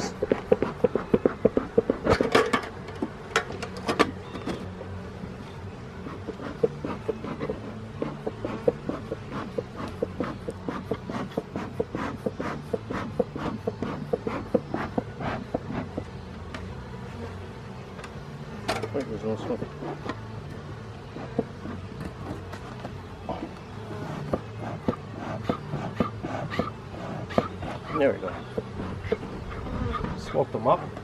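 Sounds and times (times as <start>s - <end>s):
honeybees humming: 0.0s - 31.0s.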